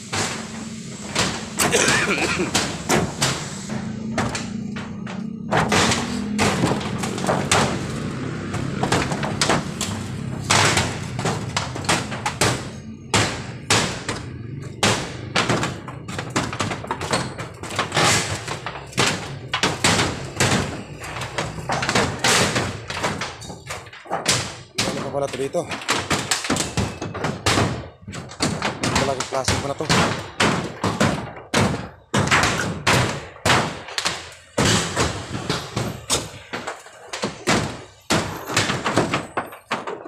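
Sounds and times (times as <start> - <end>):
bangs on corrugated metal roofing: 0.0 - 40.0.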